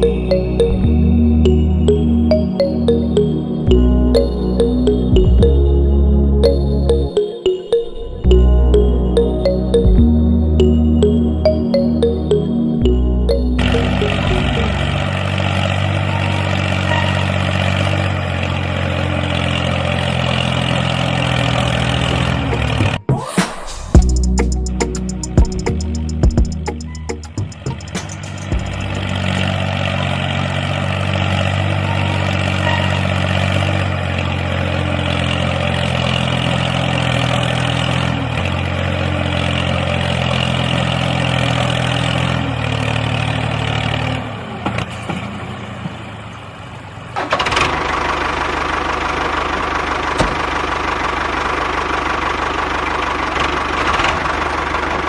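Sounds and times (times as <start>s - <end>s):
engine running: 0.0s - 23.1s, 23.9s - 55.0s.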